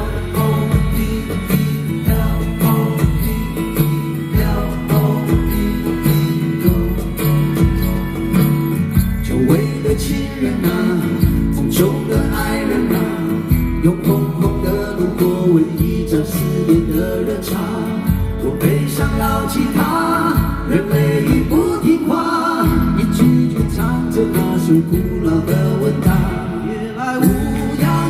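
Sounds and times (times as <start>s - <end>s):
low drum beat: 0.0s - 17.2s, 22.6s - 28.0s
guitar: 0.0s - 28.0s
live band playing pop-rock: 0.0s - 28.0s
person singing: 0.0s - 28.0s.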